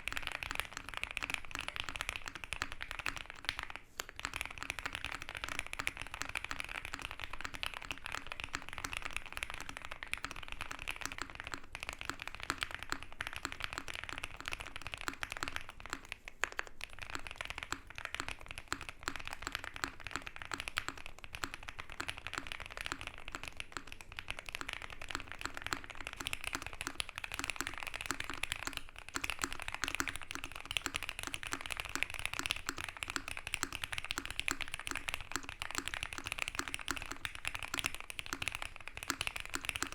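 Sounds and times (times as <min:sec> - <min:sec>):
mechanical keyboard typing: 0:04.2 - 0:39.9.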